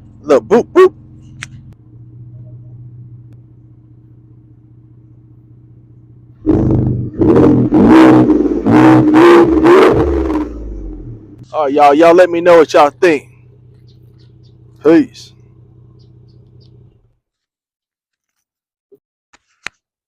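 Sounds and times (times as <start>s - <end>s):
truck engine idling and revving: 0.0s - 17.2s.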